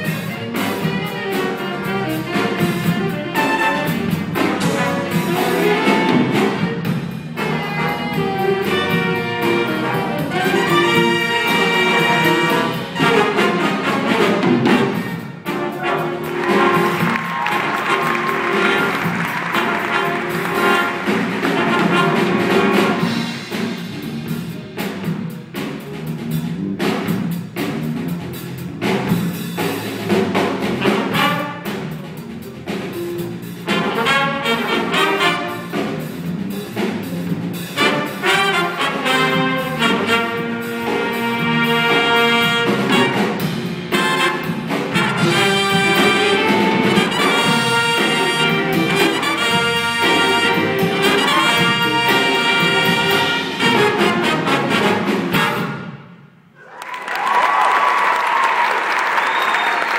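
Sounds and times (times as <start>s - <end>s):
held brass chords: 0.0s - 24.8s, 30.3s - 32.5s, 33.2s - 56.2s
big band jazz: 0.0s - 56.5s
drums: 0.0s - 59.9s.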